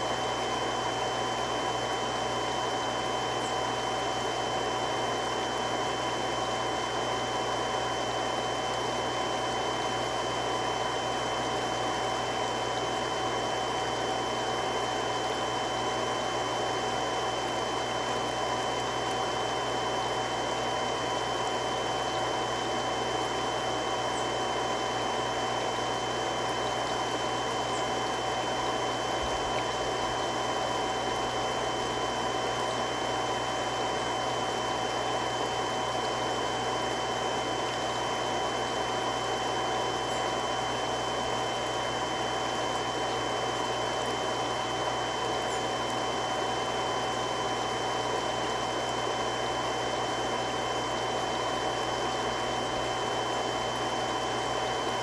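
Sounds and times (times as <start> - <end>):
pump whining tones: 0.0 - 55.0
water pump running: 0.0 - 55.0.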